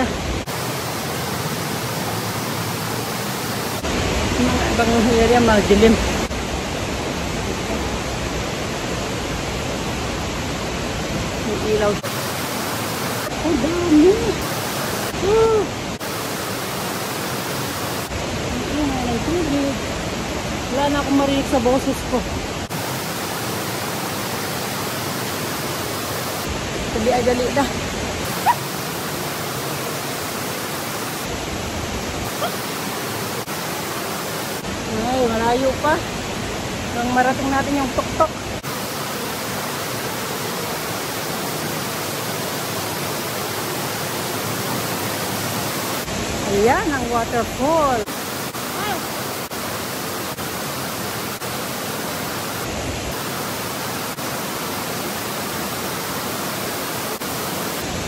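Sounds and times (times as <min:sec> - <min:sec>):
cave waterfall rushing: 0:00.0 - 0:58.0.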